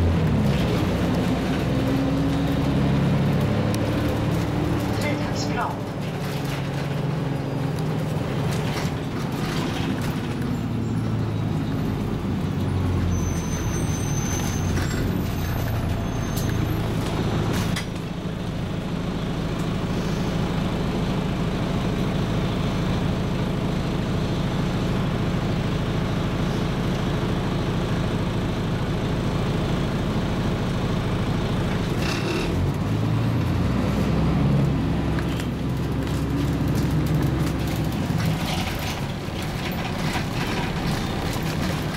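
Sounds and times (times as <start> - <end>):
bus diesel engine running: 0.0 - 41.9
road and body noise: 0.0 - 41.9.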